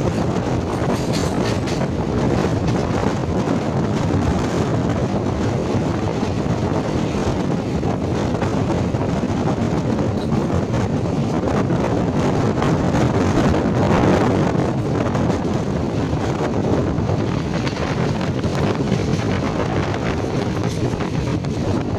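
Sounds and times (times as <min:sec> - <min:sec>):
train coaches running on track: 0:00.0 - 0:21.9
wind rushing over microphone: 0:00.0 - 0:21.9.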